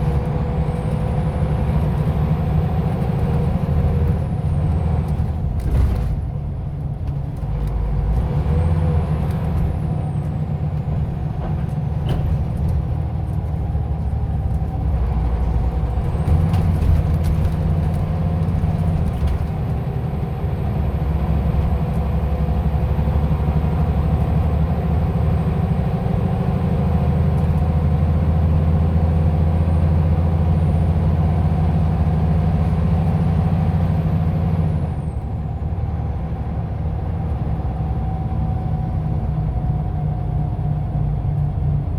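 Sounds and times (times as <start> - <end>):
bus diesel engine running: 0.0 - 41.9
road rumble: 0.0 - 41.9.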